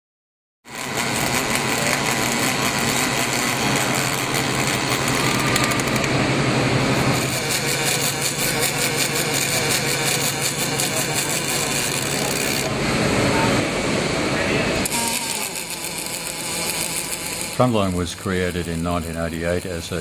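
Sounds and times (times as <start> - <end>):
welding arc hissing: 0.7 - 6.1, 6.8 - 12.8, 14.8 - 20.0.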